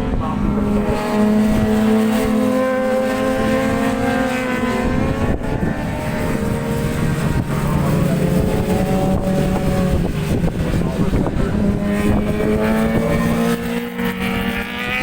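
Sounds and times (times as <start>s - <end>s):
racing motorcycle engines: 0.0s - 15.0s
wind rumble on microphone: 0.0s - 15.0s.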